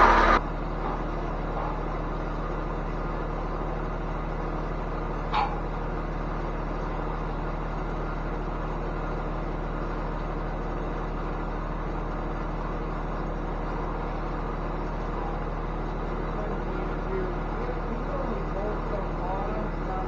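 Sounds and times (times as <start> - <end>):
motor humming steadily: 0.0 - 20.0.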